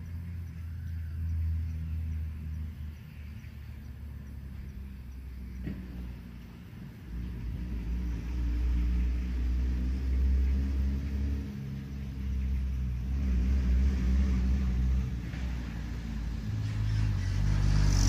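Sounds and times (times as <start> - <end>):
road vehicles passing: 0.0 - 18.0.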